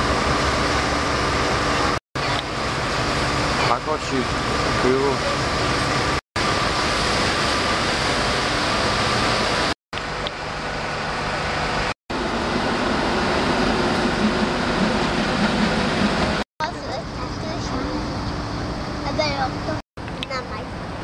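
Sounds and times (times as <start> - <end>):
boat engine water and wind drone: 0.0 - 21.0.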